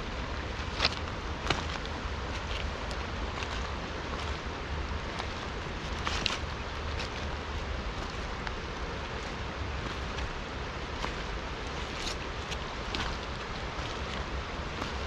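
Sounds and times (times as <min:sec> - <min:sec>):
river rushing: 0:00.0 - 0:15.0
wind rumble on microphone: 0:00.0 - 0:15.0.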